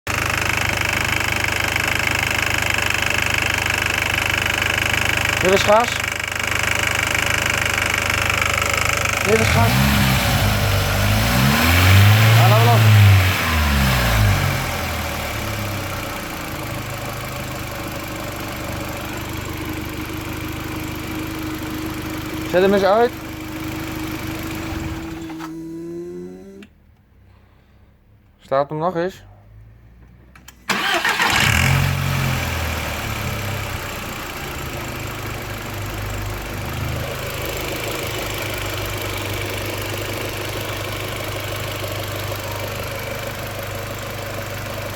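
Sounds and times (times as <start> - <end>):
car engine idling: 0.1 - 26.7, 30.7 - 44.9.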